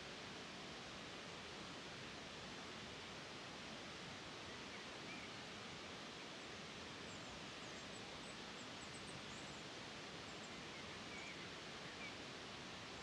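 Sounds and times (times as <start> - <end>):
running water hiss: 0.0 - 13.0.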